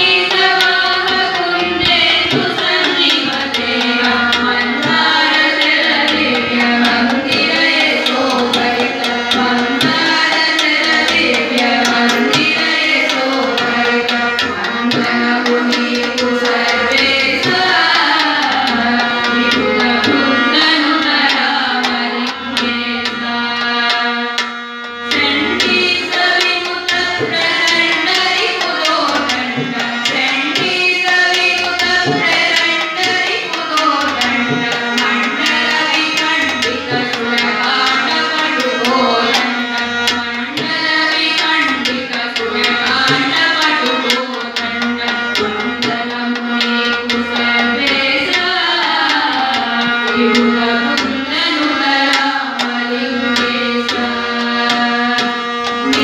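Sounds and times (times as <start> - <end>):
harmonium holding notes: 0.0 - 56.0
percussion beat: 0.0 - 56.0
women singing devotional song: 0.0 - 56.0.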